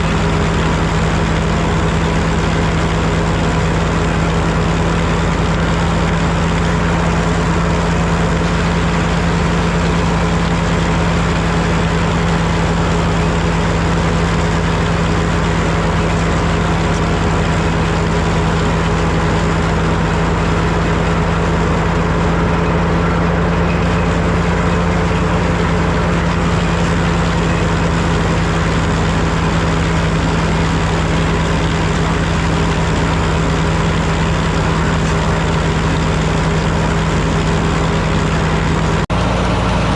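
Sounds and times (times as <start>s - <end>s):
tractor engine humming: 0.0s - 39.9s
wood planer running: 0.0s - 39.9s.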